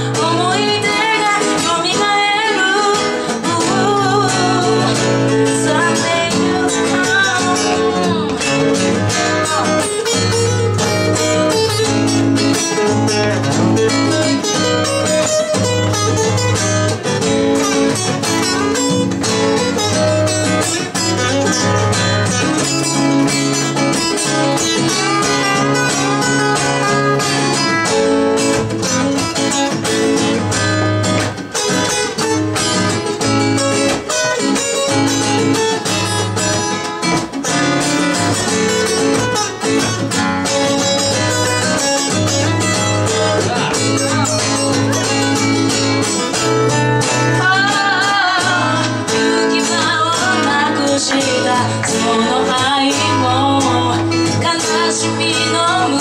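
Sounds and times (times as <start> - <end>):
acoustic guitars strumming and picking: 0.0 - 56.0.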